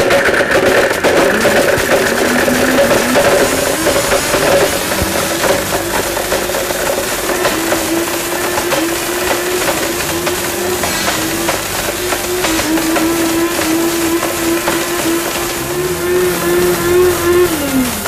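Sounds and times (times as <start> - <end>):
blender motor whining: 0.0 - 18.0
golf balls rattling in blender jar: 0.0 - 18.0.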